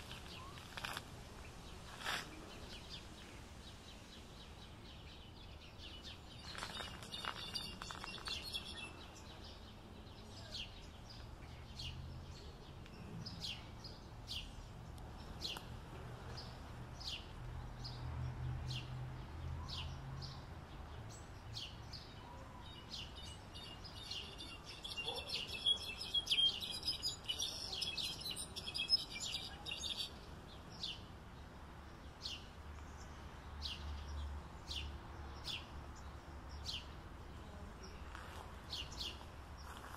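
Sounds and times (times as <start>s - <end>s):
bird twittering song: 0.1s - 18.0s, 19.6s - 37.0s.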